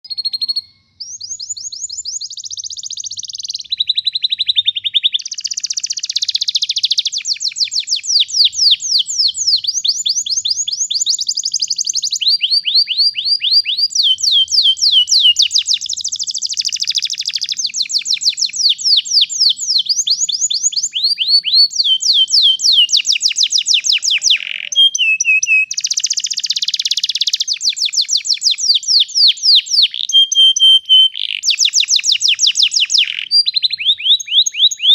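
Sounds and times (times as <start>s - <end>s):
canary singing rolling trills: 0.0s - 34.9s.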